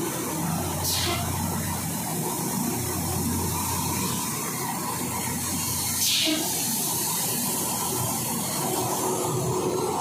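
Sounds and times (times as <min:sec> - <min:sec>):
rail grinding machine rumbling: 0:00.0 - 0:10.0.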